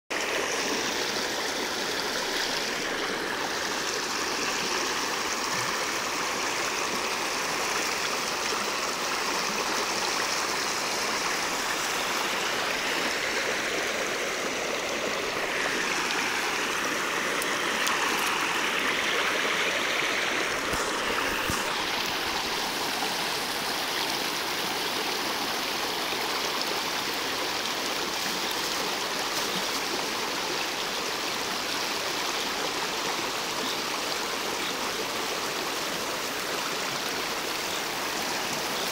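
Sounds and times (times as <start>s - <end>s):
river current flowing: 0.1s - 38.9s.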